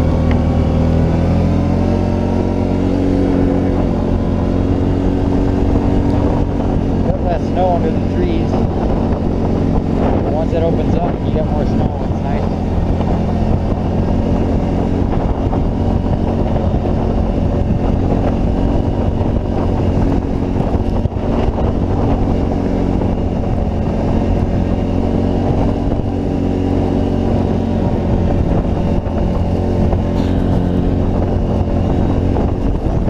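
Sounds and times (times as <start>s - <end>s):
atv engine running under load: 0.0s - 33.0s.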